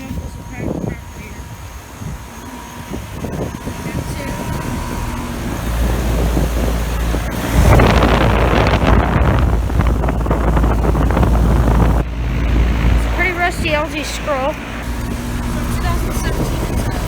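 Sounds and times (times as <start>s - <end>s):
air-conditioner units humming: 0.0s - 17.0s
wind buffeting microphone: 0.0s - 17.0s.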